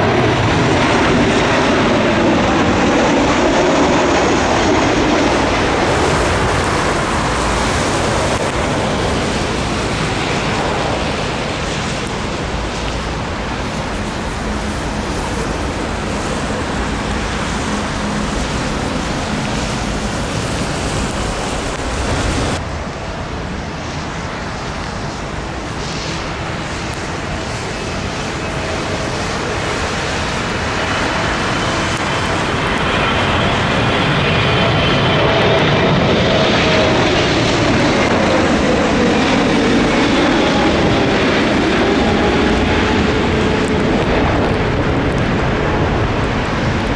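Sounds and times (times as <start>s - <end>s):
jet airliner engine whine: 0.0s - 46.9s
wind across microphone: 0.0s - 46.9s.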